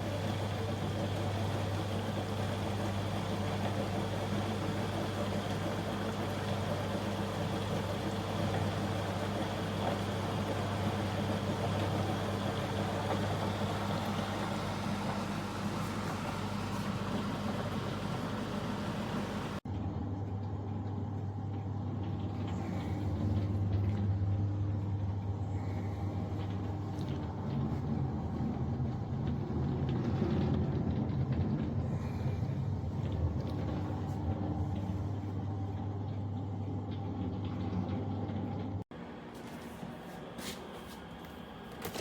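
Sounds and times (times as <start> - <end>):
dishwasher motor hum: 0.0 - 42.0.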